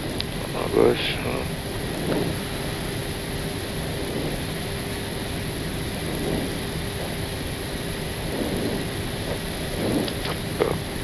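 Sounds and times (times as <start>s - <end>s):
air conditioning hiss: 0.0s - 11.0s
airliner engines idling: 0.0s - 11.0s
faint steady hum: 0.0s - 11.0s.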